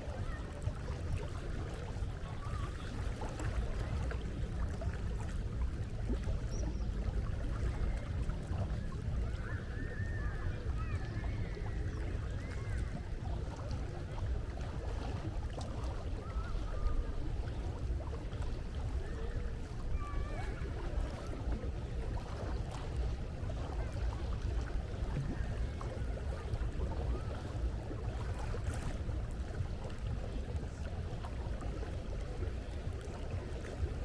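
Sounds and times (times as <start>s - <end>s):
sea waves: 0.0s - 34.0s.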